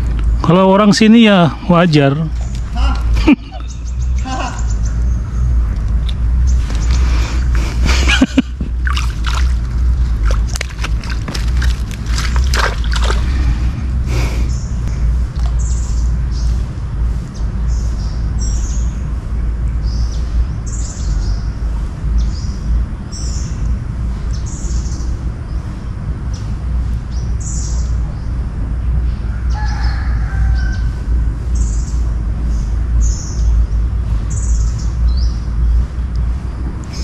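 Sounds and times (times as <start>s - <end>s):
bird chirping: 0.0s - 13.6s, 14.2s - 28.4s, 29.0s - 35.9s
steady low rumble: 0.0s - 37.0s.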